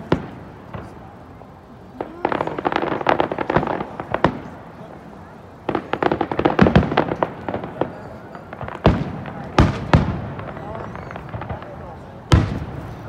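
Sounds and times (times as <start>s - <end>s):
fireworks booms: 0.0s - 13.0s
fireworks crackling: 0.0s - 13.0s.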